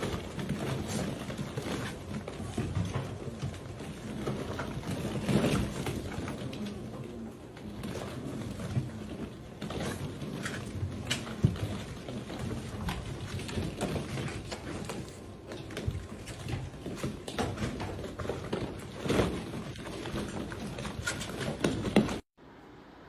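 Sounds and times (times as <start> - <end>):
puppies scuffling paws: 0.0 - 22.3.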